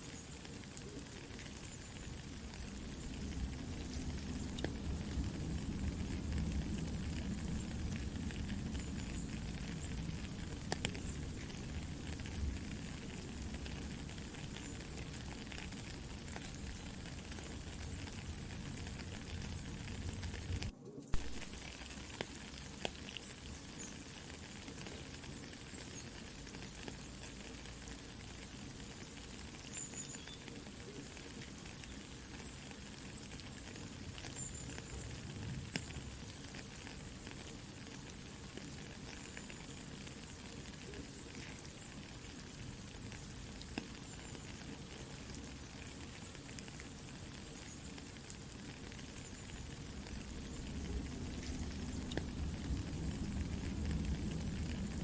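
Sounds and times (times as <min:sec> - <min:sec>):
campfire crackling and popping: 0:00.0 - 0:55.0
soft rain hissing: 0:00.0 - 0:55.0.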